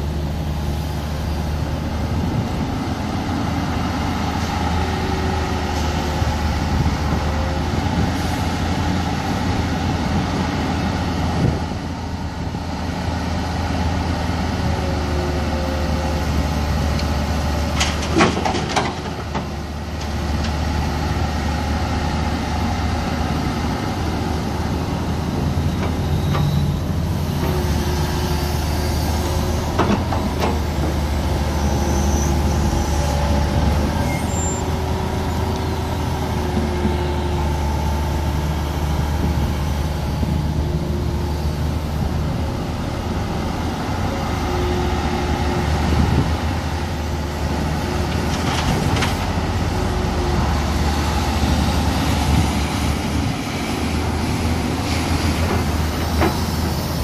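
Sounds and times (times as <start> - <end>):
hydraulic excavator running: 0.0 - 57.0.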